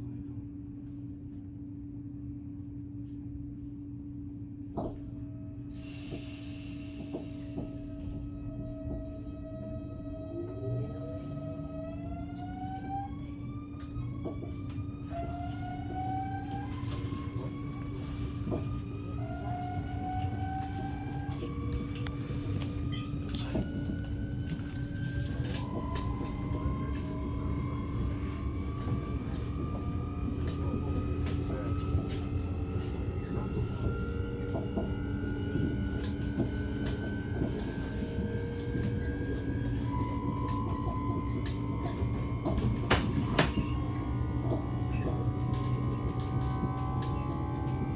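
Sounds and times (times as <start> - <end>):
electric train inverter whine: 1.5 - 47.9.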